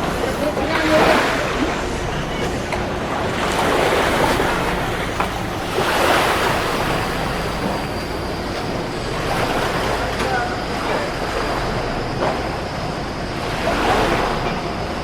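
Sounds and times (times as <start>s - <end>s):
rushing water: 0.0s - 15.0s
wind: 0.0s - 15.0s.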